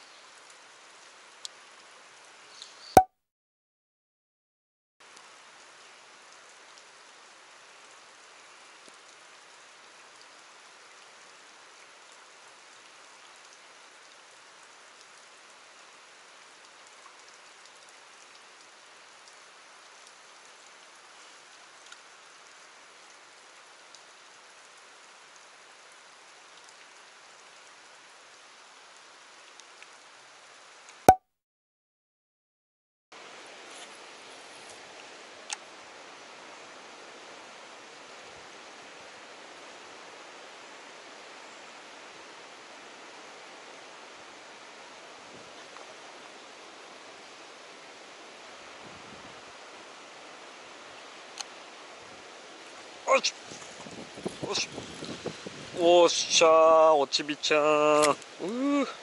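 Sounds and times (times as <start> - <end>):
hiss of falling water: 0.0 - 3.0, 5.0 - 31.0, 33.2 - 59.0.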